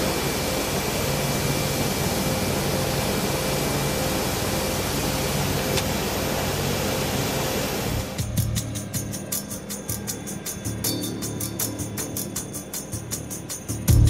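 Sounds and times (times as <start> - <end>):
engine running: 0.0 - 14.0
faint high whine: 0.0 - 14.0.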